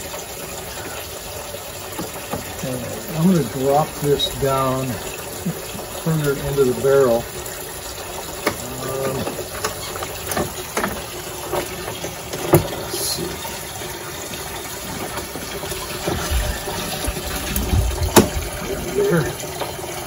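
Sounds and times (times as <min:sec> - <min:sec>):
hose water running into barrel: 0:00.0 - 0:20.0.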